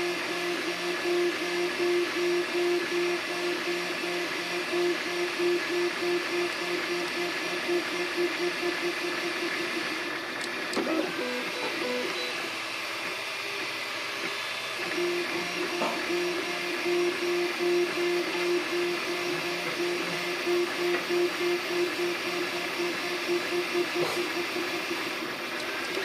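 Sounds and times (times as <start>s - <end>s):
printer whir: 0.0s - 26.0s
stepper motors tones: 0.0s - 26.0s.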